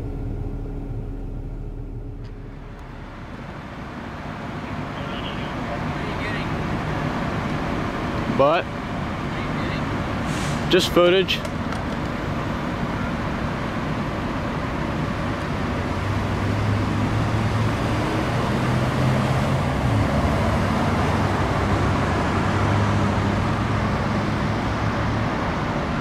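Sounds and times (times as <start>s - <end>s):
fire truck diesel engine running: 0.0s - 26.0s.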